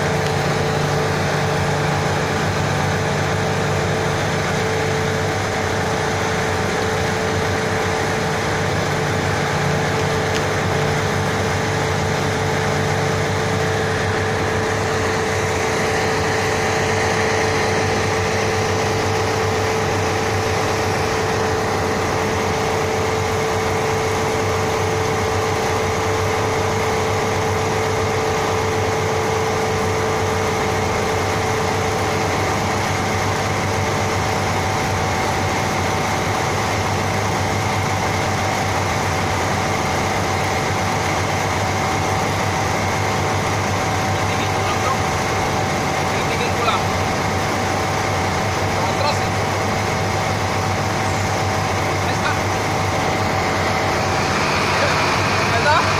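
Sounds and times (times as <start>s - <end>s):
machinery humming with whining tones: 0.0s - 55.9s.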